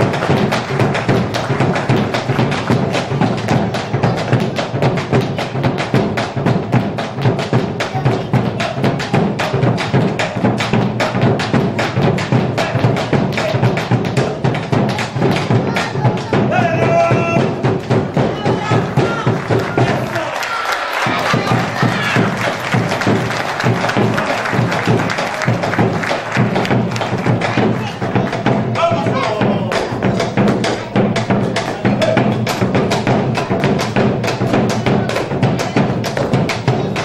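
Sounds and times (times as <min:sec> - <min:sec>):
percussive knocks and thumps: 0:00.0 - 0:20.2, 0:21.0 - 0:37.0.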